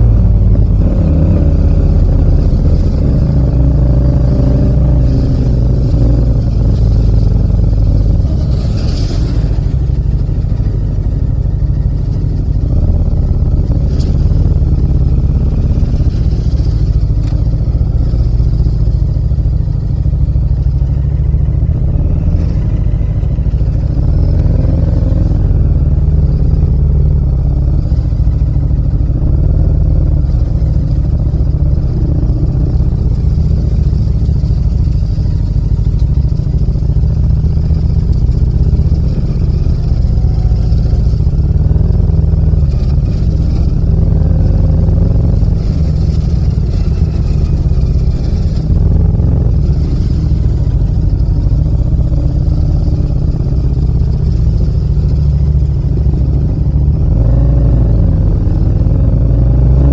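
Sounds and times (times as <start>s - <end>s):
motorcycle engine deep rumble: 0.0s - 59.9s.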